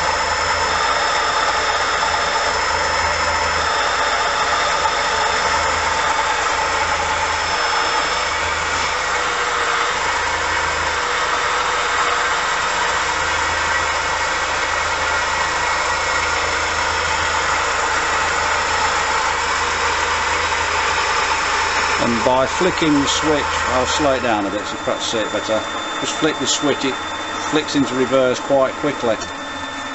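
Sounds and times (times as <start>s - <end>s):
lathe motor whirring whine: 0.0s - 29.9s.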